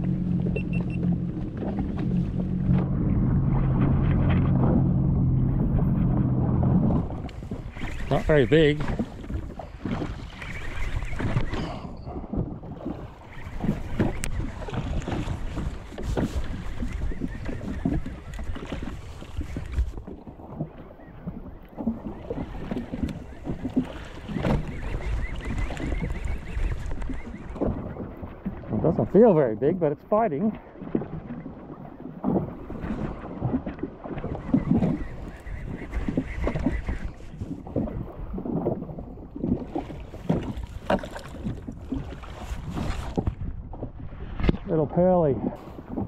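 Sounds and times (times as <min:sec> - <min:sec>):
water slapping against hull: 0:00.0 - 0:46.0
wind buffeting microphone: 0:00.0 - 0:46.0.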